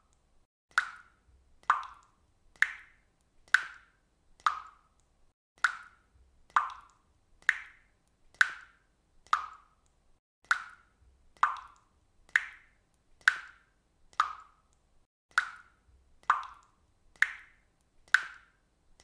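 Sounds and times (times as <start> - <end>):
faucet dripping: 0.0 - 2.9, 4.4 - 18.4.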